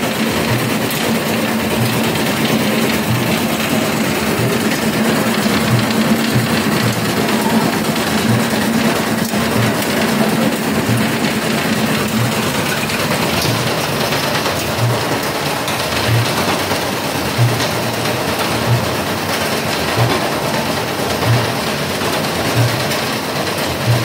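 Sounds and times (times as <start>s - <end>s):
conveyor mechanical drone: 0.0s - 24.0s.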